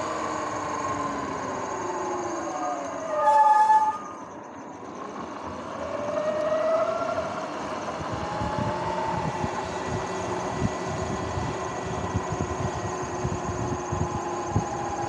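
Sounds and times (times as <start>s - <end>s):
electric motor whine: 0.0s - 3.2s, 5.1s - 15.0s
brake squeal: 0.0s - 15.0s
wind and tyre noise: 0.0s - 15.0s.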